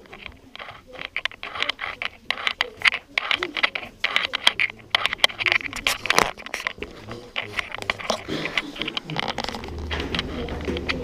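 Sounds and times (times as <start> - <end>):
footsteps on gritty stone floor: 0.0 - 11.0
indistinct voices: 0.0 - 11.0.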